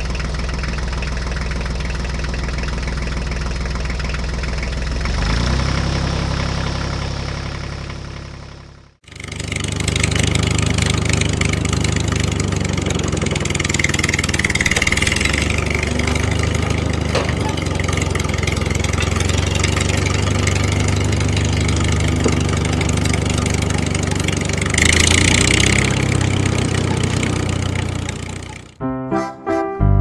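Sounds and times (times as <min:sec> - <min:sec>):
vehicle engine idling: 0:00.0 - 0:28.8.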